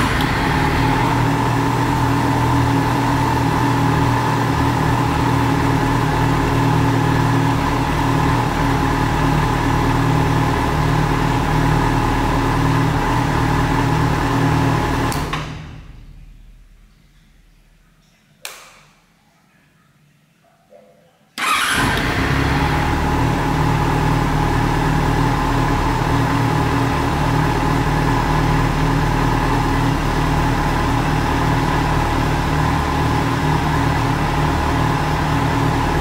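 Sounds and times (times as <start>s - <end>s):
motorcycle engine starting and idling: 0.0s - 16.8s, 21.4s - 36.0s.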